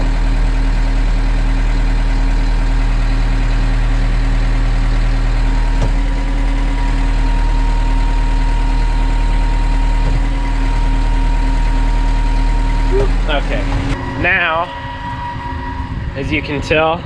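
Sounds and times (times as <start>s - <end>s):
tractor engine idling: 0.0s - 16.9s.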